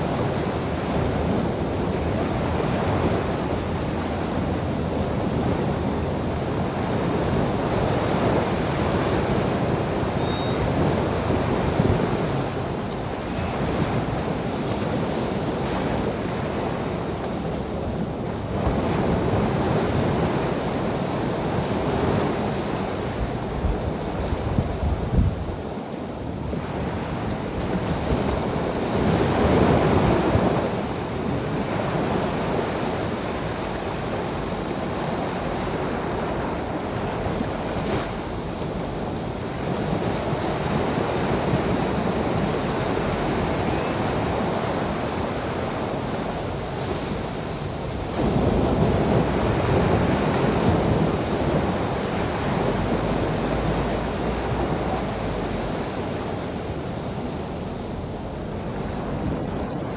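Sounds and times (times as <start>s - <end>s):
ocean waves breaking on shore: 0.0s - 59.9s
wind buffeting microphone: 0.0s - 59.9s.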